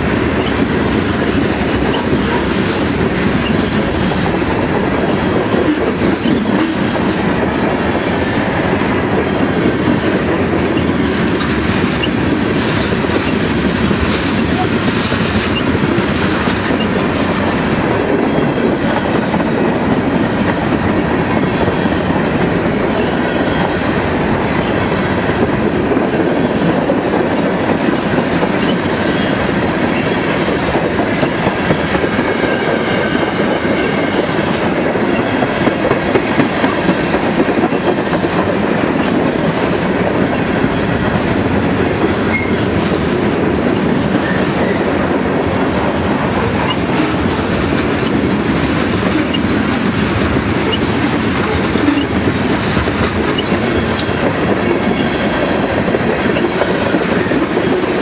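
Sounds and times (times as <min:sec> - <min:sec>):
freight train wheels rolling on rails: 0:00.0 - 0:58.0.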